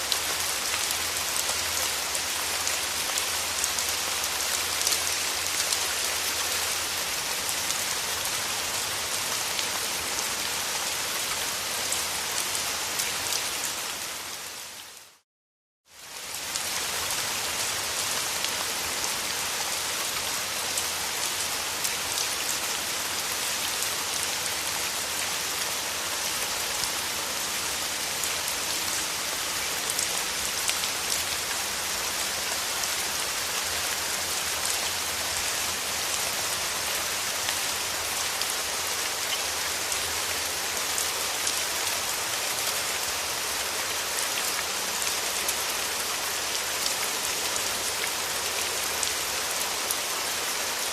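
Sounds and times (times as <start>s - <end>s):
steady rain falling: 0.0s - 15.2s, 15.8s - 50.9s.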